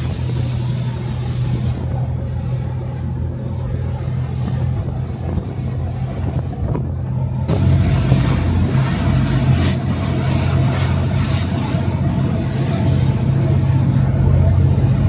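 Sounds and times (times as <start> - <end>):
ferry engines droning: 0.0 - 15.0
rushing water: 0.0 - 15.0
wind noise: 0.0 - 15.0.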